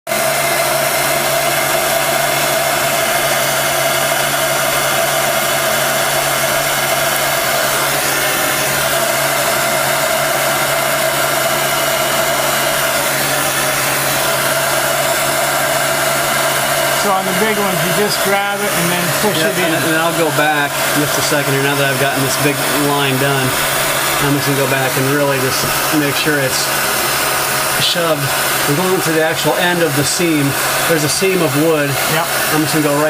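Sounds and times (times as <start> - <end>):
hot-air blower whirring: 0.1 - 33.0.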